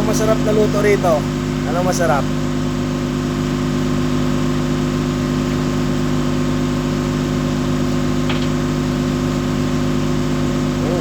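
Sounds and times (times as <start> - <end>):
ship engine drone: 0.0 - 11.0.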